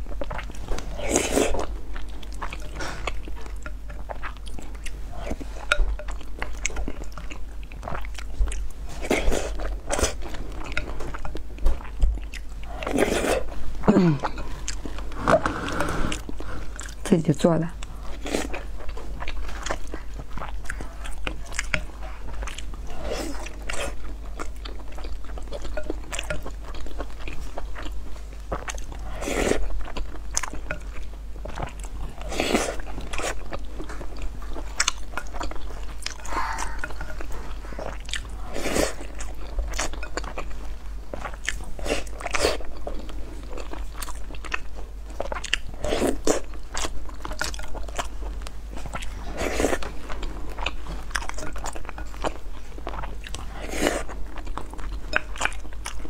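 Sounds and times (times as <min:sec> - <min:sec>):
chewing and wet mouth sounds: 0:00.0 - 0:56.0.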